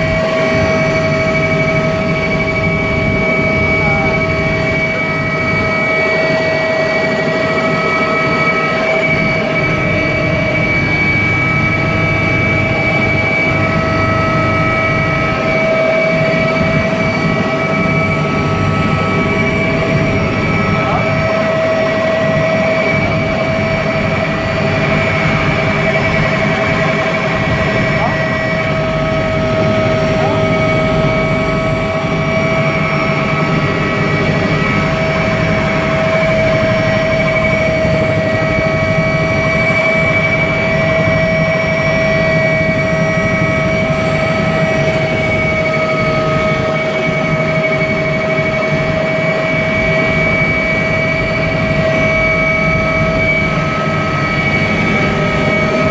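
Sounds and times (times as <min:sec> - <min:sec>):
helicopter engines and rotor rushing: 0:00.0 - 0:55.9
helicopter turbine whine: 0:00.0 - 0:55.9.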